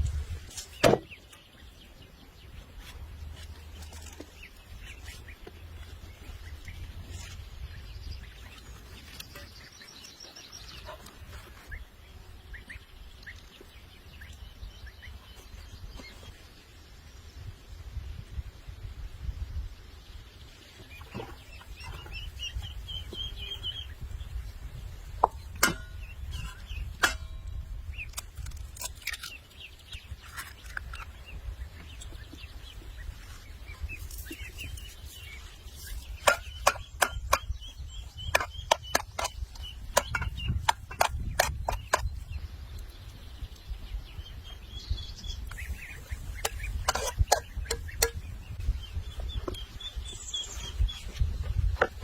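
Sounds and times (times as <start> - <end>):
birds calling: 0.0 - 17.9, 18.8 - 52.0.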